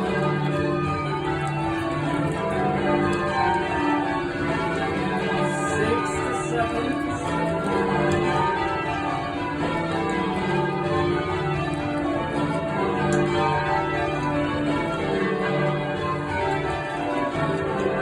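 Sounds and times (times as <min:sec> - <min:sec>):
church bells change ringing: 0:00.0 - 0:18.0.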